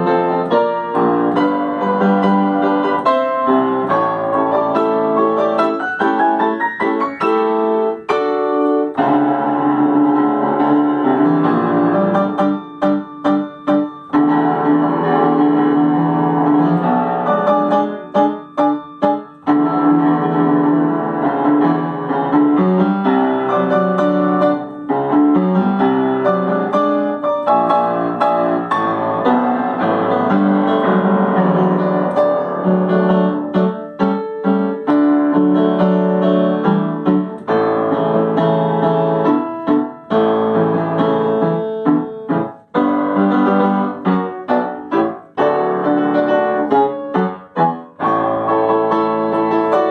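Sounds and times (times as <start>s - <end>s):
solo piano piece: 0.0s - 49.9s.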